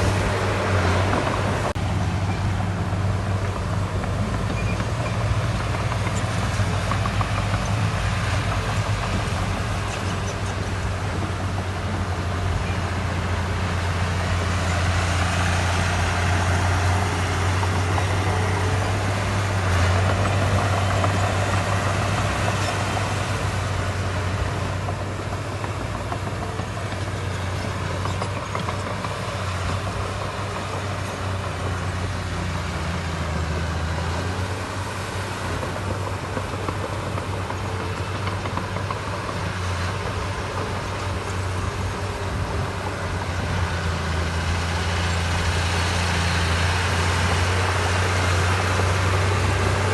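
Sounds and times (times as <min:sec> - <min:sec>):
diesel machinery engine hum: 0:00.0 - 0:49.9.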